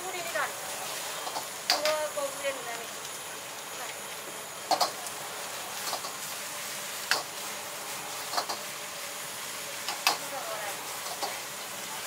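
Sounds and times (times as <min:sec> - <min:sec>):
hiss of frying: 0:00.0 - 0:12.0.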